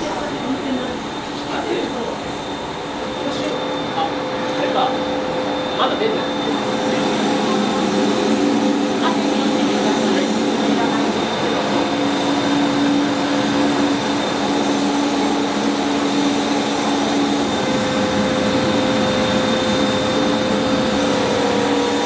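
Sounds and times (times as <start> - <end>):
blower whirring drone: 0.0 - 22.0.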